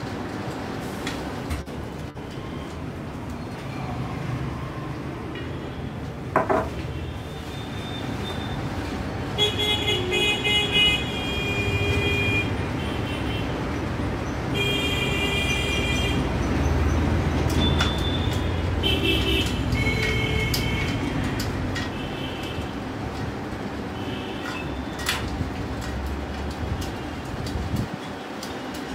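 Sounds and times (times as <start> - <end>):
street traffic rumbling: 0.0 - 28.9.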